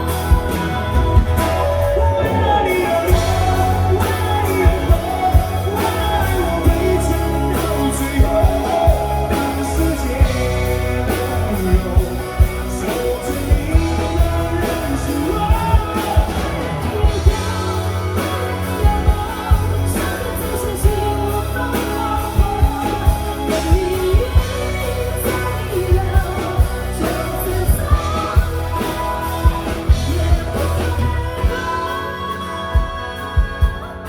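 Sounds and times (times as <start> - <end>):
bass and guitars: 0.0 - 34.0
drum kit beat: 0.0 - 34.0
wavering melodic lead line: 0.0 - 34.0.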